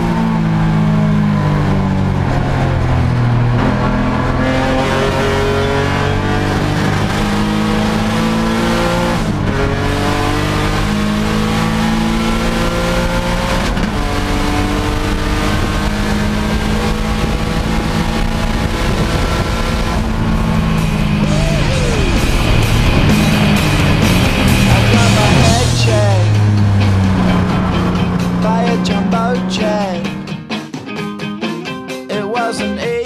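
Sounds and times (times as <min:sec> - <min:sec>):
car engine accelerating hard: 0:00.0 - 0:30.5.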